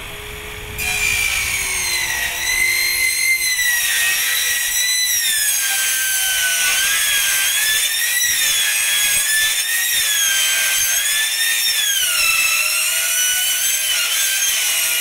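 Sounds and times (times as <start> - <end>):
saw motor whine: 0.0 - 15.0
high metal-on-metal screech: 0.7 - 15.0.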